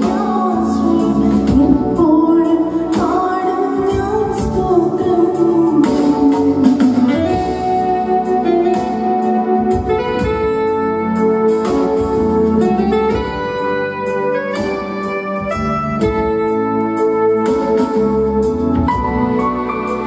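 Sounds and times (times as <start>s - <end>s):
keyboard organ chords: 0.0s - 20.0s
piano-like melody: 0.0s - 20.0s.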